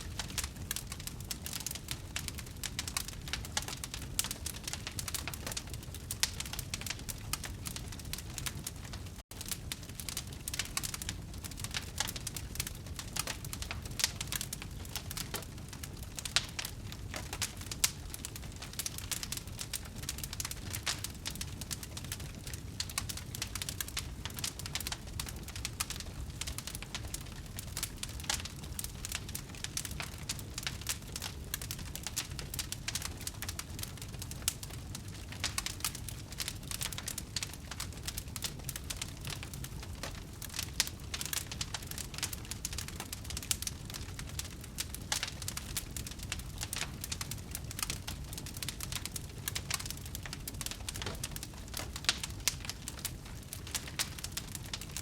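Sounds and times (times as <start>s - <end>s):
burning wood crackling: 0.0s - 55.0s
low rumble of flames: 0.0s - 55.0s.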